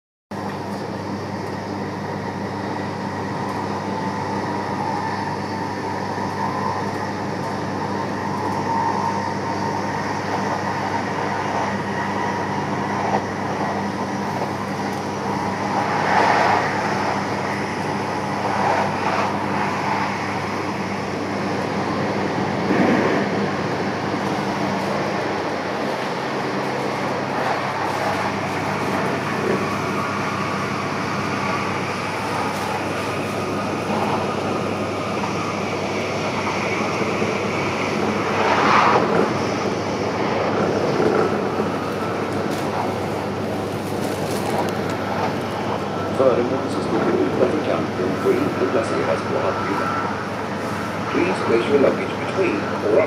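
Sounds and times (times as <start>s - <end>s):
train carriage running hum: 0.3s - 53.0s.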